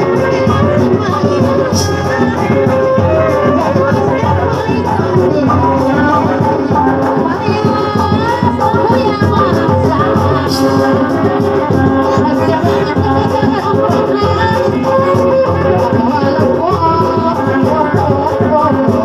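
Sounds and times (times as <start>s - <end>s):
drumming and rattling percussion: 0.0s - 19.0s
person singing: 0.0s - 19.0s.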